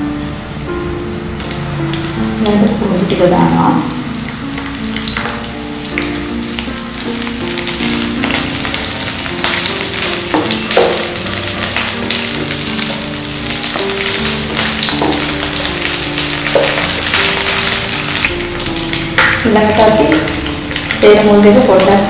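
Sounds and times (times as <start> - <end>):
sizzling and crackling in hot oil: 0.0 - 22.0
soft background music: 0.0 - 22.0.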